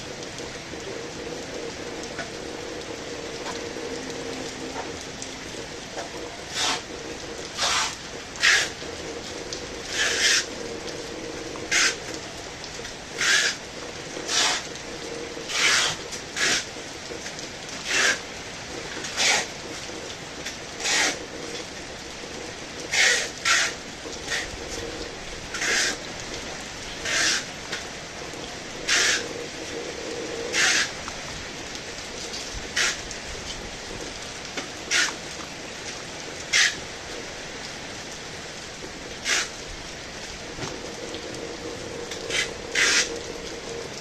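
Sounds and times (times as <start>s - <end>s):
heavy rain hissing: 0.0s - 44.0s.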